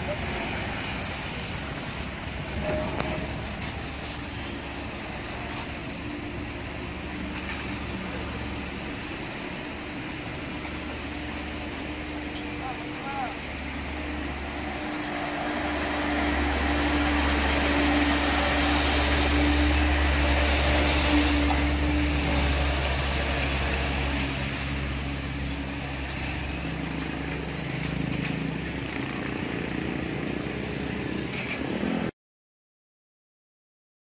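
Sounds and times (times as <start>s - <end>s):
heavy diesel trucks labouring: 0.0s - 32.1s
lighter traffic passing: 0.0s - 32.1s.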